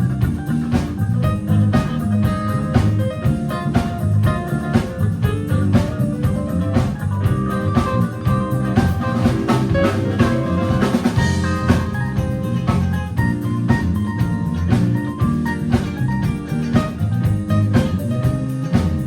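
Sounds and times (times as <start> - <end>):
held melody notes: 0.0 - 18.8
bass: 0.0 - 19.0
drum kit beat with rimshots: 0.0 - 19.0
guitar: 0.0 - 19.0.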